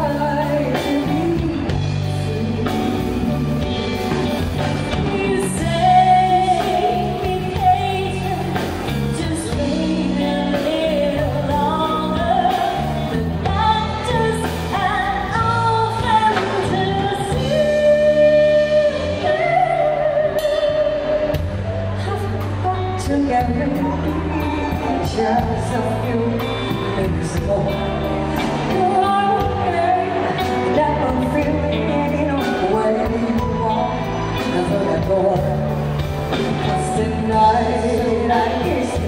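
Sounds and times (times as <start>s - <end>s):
drum kit: 0.0s - 39.0s
electric and acoustic guitars: 0.0s - 39.0s
woman singing: 0.0s - 39.0s.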